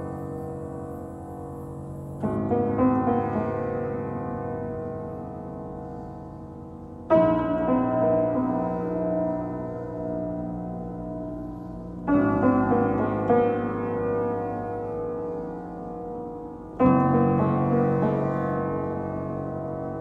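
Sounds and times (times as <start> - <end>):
loud piano chords ringing: 0.0 - 20.0
slow piano music: 0.0 - 20.0.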